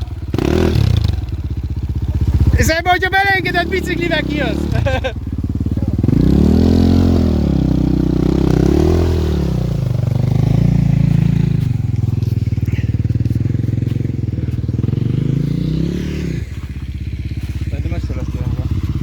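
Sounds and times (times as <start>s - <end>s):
motorcycle engine revving and idling: 0.0s - 19.0s.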